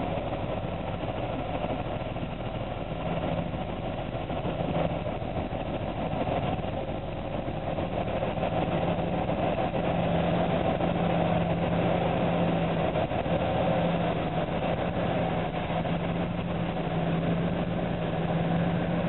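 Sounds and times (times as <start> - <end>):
diesel locomotive engine droning: 0.0 - 19.0.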